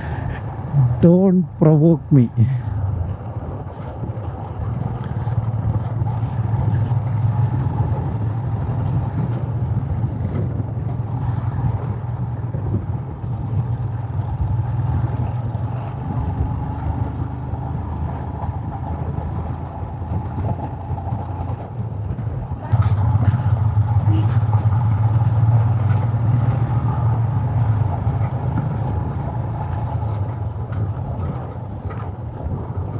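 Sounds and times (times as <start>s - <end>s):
road noise: 0.0s - 32.9s
motorcycle engine running: 3.0s - 32.9s.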